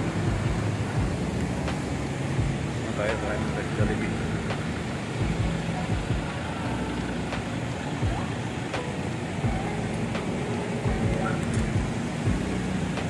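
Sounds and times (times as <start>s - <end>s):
low thumps: 0.0s - 13.0s
traffic noise: 0.0s - 13.0s.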